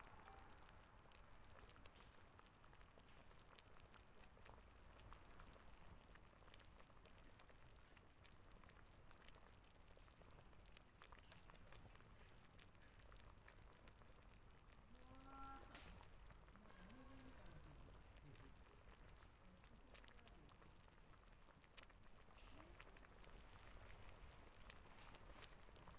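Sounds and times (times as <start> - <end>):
faint irregular ticks and patter: 0.0 - 25.9.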